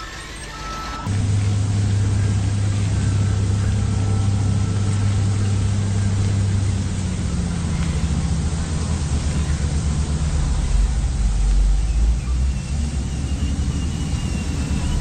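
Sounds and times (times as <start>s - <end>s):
simulated diesel engine drone: 0.0s - 15.0s.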